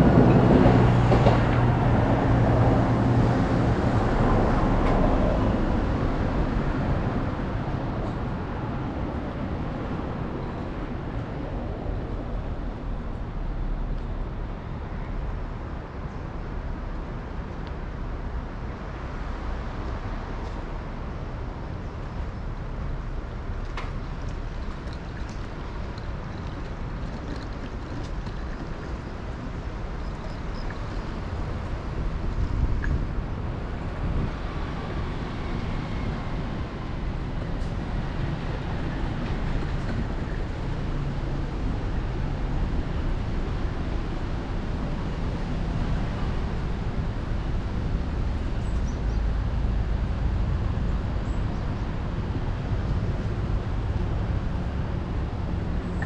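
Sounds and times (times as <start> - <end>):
city vehicle rumble: 0.0 - 56.0.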